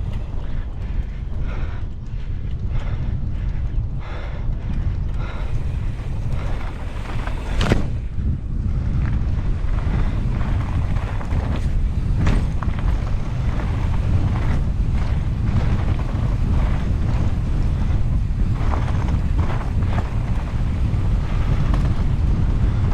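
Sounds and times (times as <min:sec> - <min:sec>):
bike knocking and rattling: 0:00.0 - 0:22.9
wind buffeting microphone: 0:00.0 - 0:22.9.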